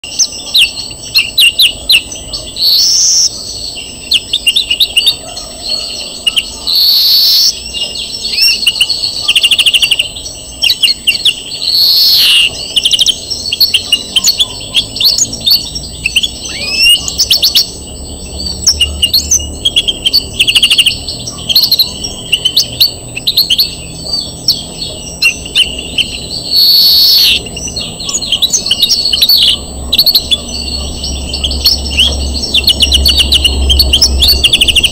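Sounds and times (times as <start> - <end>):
buzzy bird notes: 0.0 - 34.9
finch twittering trills: 0.0 - 34.9.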